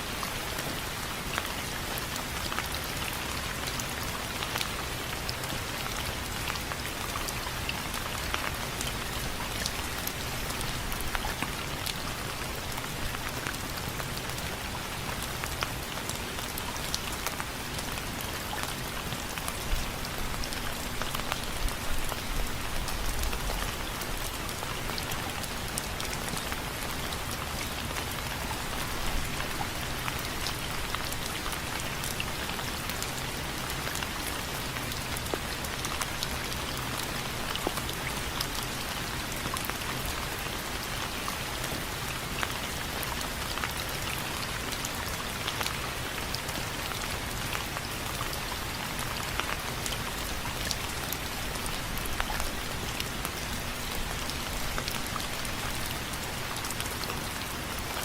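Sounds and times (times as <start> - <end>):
steady rain hiss: 0.0 - 58.0
raindrops ticking on frame: 0.1 - 58.0.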